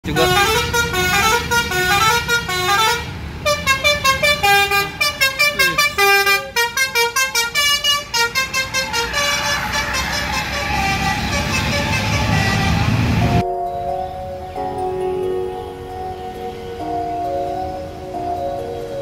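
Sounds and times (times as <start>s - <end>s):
multi-tone horn melody: 0.0s - 13.6s, 14.4s - 18.4s
coach engine: 0.0s - 19.0s
passing traffic: 0.0s - 19.0s.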